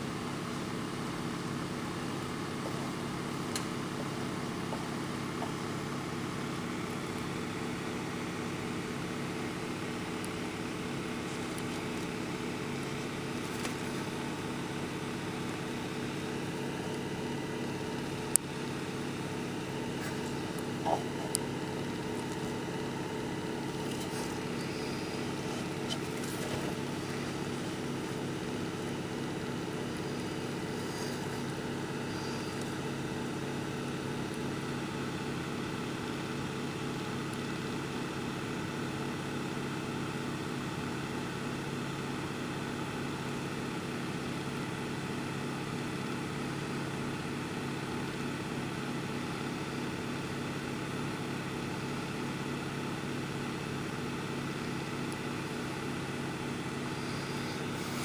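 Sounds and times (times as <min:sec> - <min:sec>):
steady low hum: 0:00.0 - 0:49.9, 0:51.0 - 0:58.0.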